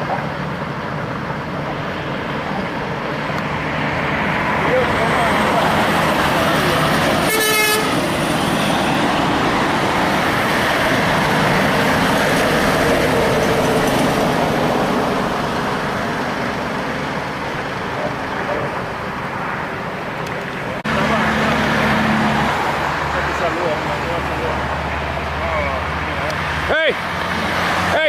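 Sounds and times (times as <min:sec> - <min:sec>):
heavy trucks passing: 0:00.0 - 0:28.0
road traffic rumble: 0:00.0 - 0:28.0.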